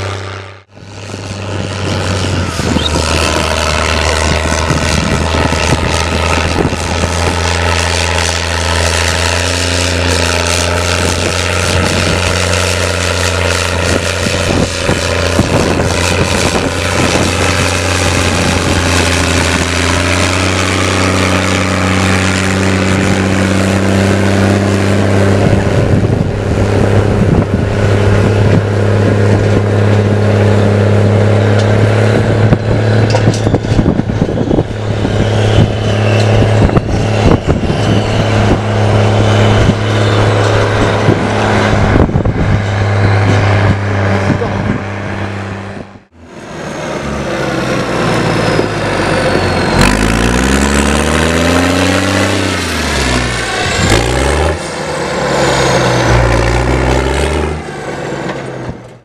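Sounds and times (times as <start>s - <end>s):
rough crackling and rushing noise: 0.0s - 59.0s
tractor diesel engine pulling hard: 0.0s - 59.0s.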